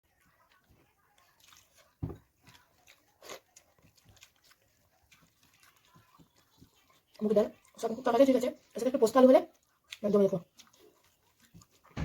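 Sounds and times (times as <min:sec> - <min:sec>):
biting and chewing food: 0:00.0 - 0:12.0.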